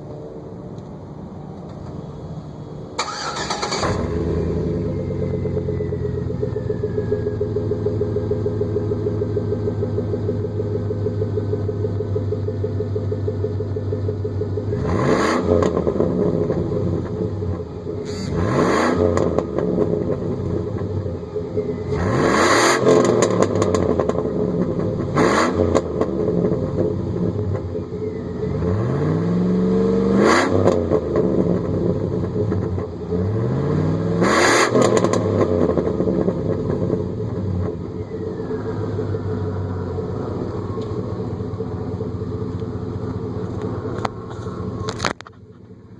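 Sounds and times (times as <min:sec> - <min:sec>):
engine idling: 0:00.0 - 0:28.9, 0:35.2 - 0:45.9
engine revving: 0:03.0 - 0:45.2.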